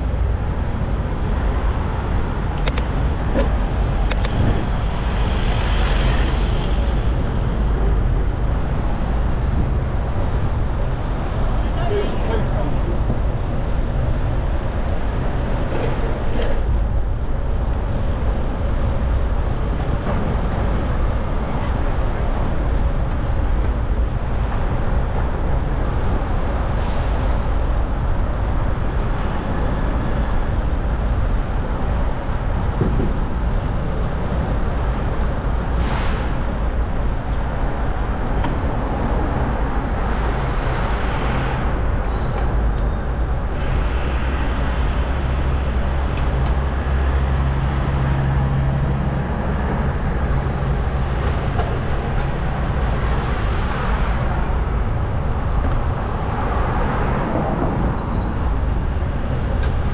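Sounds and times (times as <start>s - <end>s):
road traffic: 0.0s - 59.9s
wind rumble on microphone: 0.0s - 59.9s.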